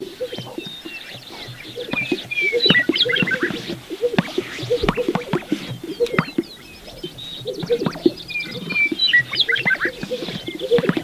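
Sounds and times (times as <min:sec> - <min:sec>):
bird chirps and whistles: 0:00.0 - 0:11.0
grouse air sac pops: 0:00.0 - 0:11.0.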